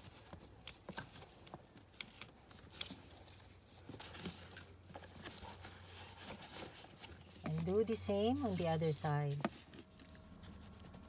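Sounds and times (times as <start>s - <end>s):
strap rustling: 0.0s - 11.0s.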